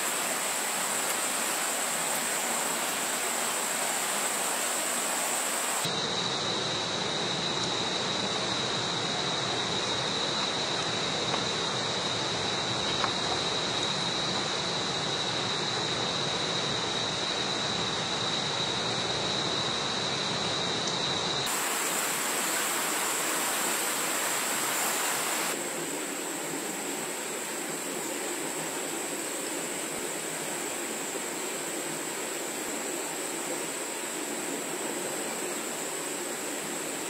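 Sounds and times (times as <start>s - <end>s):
even rushing hiss: 0.0s - 37.0s
high-pitched insect drone: 0.0s - 37.0s.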